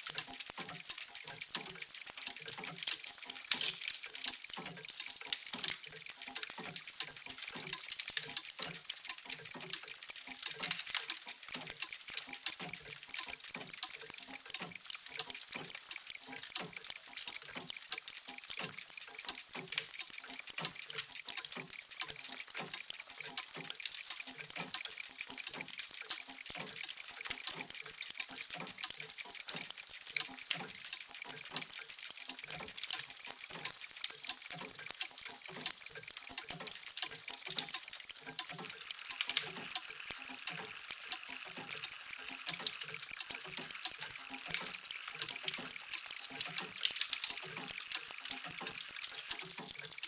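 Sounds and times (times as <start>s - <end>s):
mechanical clocks ticking: 0.0s - 50.0s.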